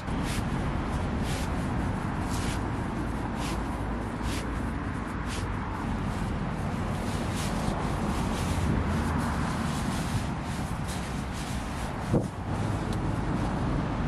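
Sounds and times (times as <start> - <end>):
foam mat rustling: 0.0 - 13.3
road traffic rumble: 0.0 - 14.0.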